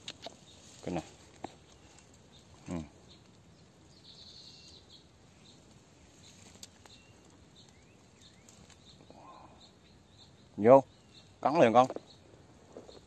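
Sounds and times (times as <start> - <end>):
soft high bird chirps: 0.0 - 13.0.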